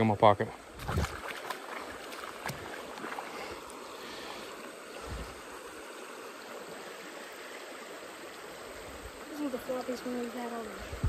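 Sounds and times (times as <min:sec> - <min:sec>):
river water over rocks: 0:00.0 - 0:11.0.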